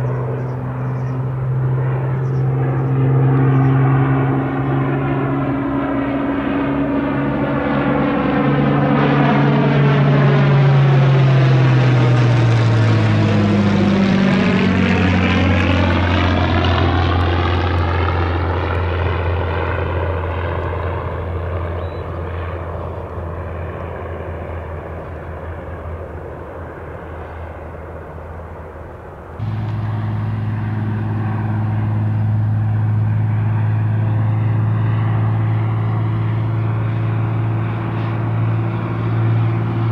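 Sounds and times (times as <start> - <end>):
propeller aircraft engine: 0.0 - 39.9.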